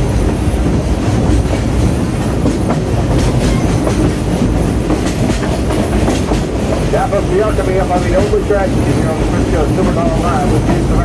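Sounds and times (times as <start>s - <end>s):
train rumbling along track: 0.0s - 11.0s
wheels clacking over rail joints: 0.0s - 11.0s.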